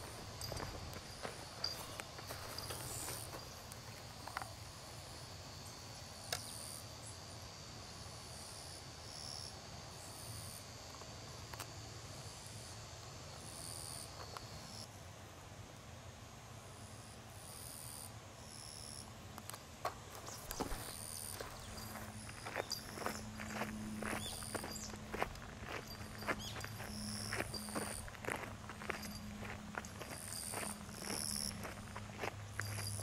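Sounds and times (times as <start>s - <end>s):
insects chirping: 0.0s - 15.0s, 16.7s - 33.0s.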